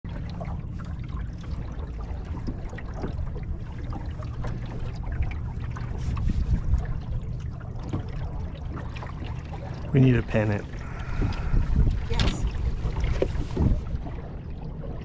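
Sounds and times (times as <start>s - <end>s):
waves lapping against wooden hull: 0.0s - 15.0s
wind rumbling on microphone: 0.1s - 15.0s.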